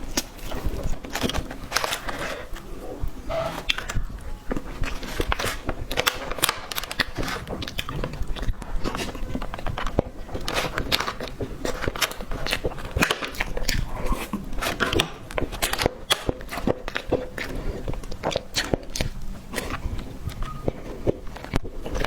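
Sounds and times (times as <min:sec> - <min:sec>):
biting and chewing cake: 0:00.0 - 0:22.0.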